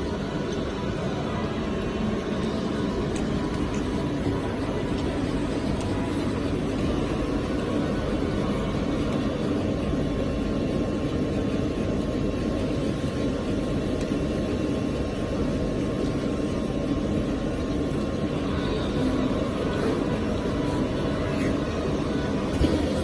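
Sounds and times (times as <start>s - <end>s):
cutting plotter mechanical drone: 0.0s - 23.0s
faint constant whine: 0.0s - 23.0s.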